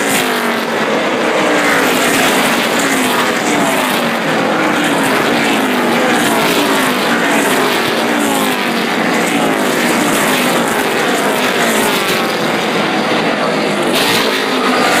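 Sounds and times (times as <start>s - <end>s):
race cars passing at speed: 0.0s - 15.0s.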